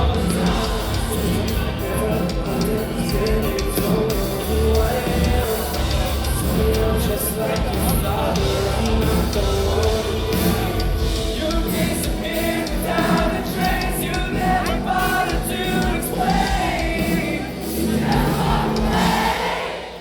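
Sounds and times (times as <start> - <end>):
rock band playing live: 0.0 - 19.8
person singing: 0.0 - 20.0.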